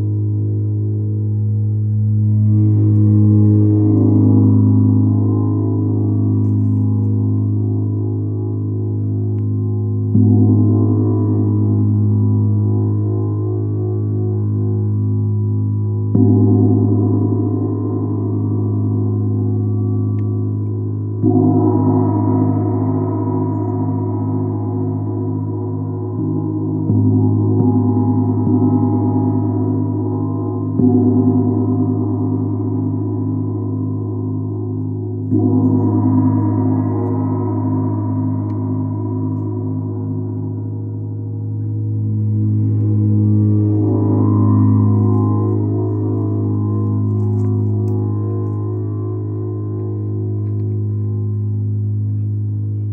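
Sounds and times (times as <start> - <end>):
gong struck with mallet: 0.1 - 52.9.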